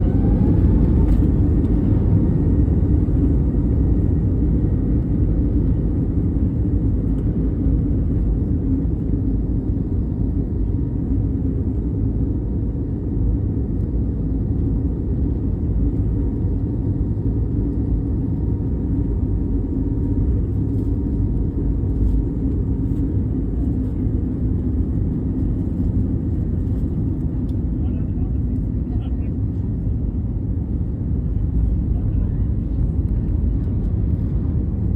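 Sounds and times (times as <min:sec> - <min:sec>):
jet engine rumble in cabin: 0:00.0 - 0:34.9.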